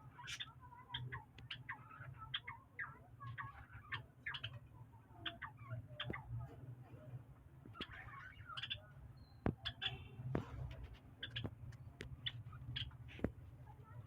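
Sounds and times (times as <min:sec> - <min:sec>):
cage birds chirping: 0:00.0 - 0:14.0.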